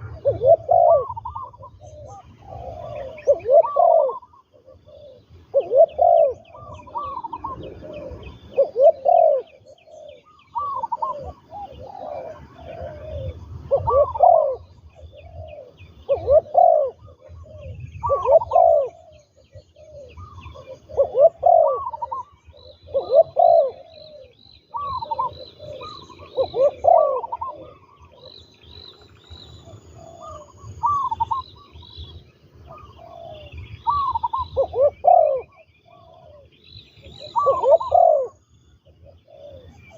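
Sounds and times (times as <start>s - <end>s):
doves cooing: 0.0s - 39.9s
small birds chirping faintly: 0.0s - 39.9s.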